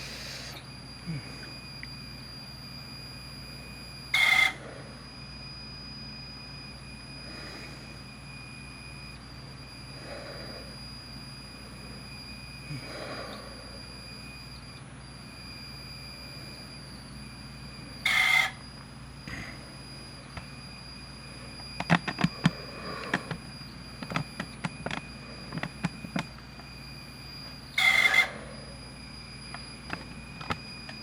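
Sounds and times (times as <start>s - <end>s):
cassette deck high-pitched squeal: 0.0s - 31.0s.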